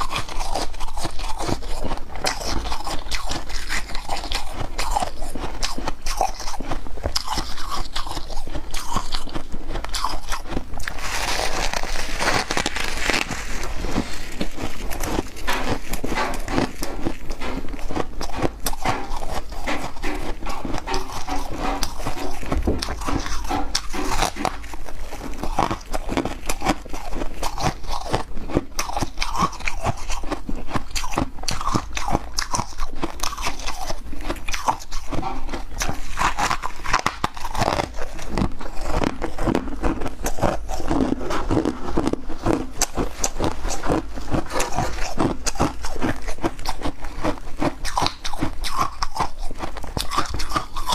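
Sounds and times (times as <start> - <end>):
ice crunched in the mouth: 0.0 - 50.9.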